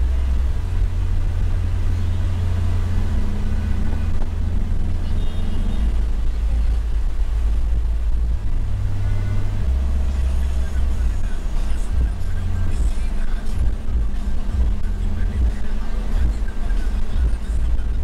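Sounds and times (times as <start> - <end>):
van engine and road noise: 0.0 - 18.0.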